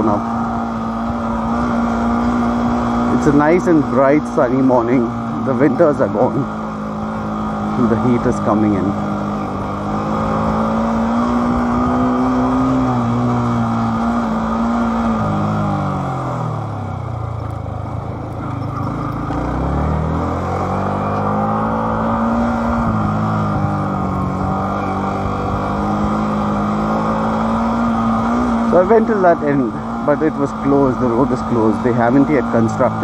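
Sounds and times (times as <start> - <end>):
motorcycle engine riding: 0.0 - 33.0.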